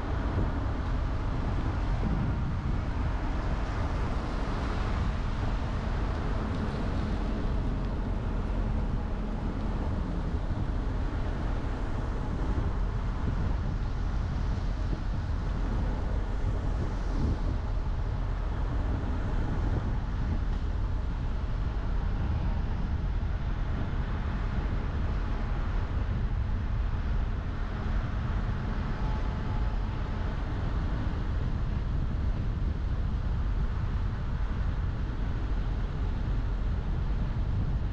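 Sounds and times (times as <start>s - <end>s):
car road rumble: 0.0s - 37.9s.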